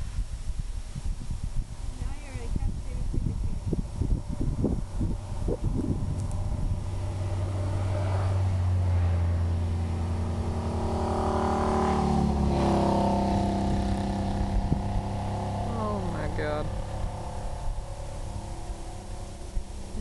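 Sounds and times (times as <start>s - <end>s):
vehicle engine accelerating: 3.6s - 20.0s.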